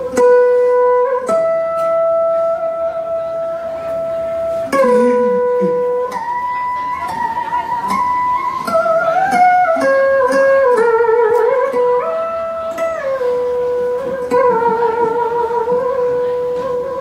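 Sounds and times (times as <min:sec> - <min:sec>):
sliding held melodic notes: 0:00.0 - 0:17.0.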